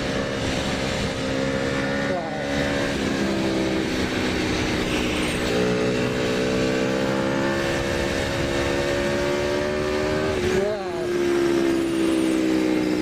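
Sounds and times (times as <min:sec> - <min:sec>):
low wind rumble: 0:00.0 - 0:13.0
motorcycle engine accelerating: 0:00.0 - 0:13.0.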